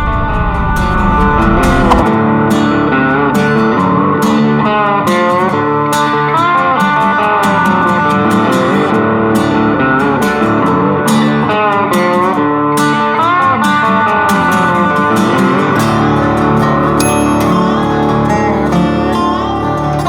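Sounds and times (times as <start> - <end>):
electric guitar instrumental music: 0.0 - 20.0.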